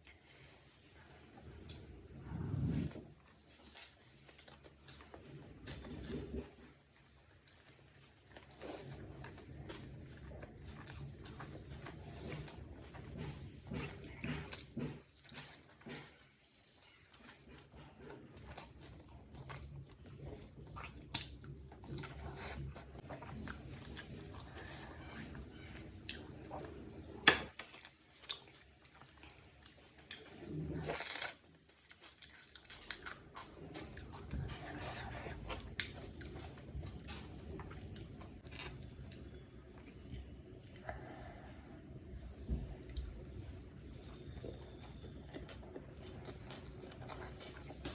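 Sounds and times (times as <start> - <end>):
chewing and biting food: 1.5 - 40.9, 42.7 - 47.9.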